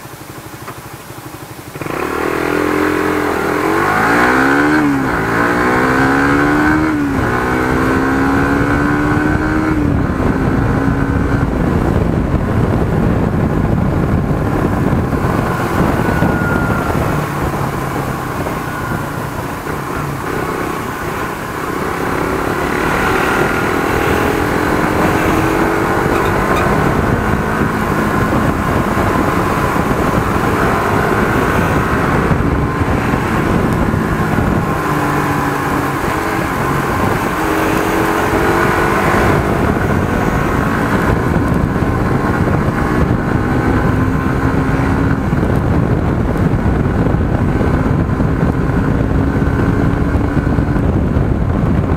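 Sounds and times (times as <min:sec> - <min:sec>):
motorcycle engine accelerating: 0:00.0 - 0:51.9
wind rushing over microphone: 0:00.0 - 0:51.9.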